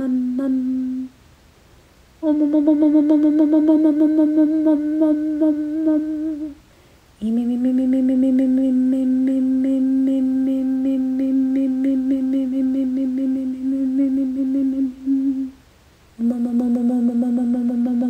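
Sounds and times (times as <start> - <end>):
person humming: 0.0 - 1.2, 2.2 - 6.6, 7.2 - 15.6, 16.2 - 18.0.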